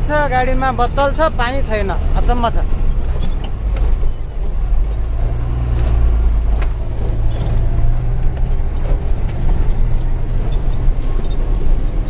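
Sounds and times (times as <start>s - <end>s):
truck diesel engine running: 0.0s - 12.0s
sharp rattles: 0.4s - 12.0s.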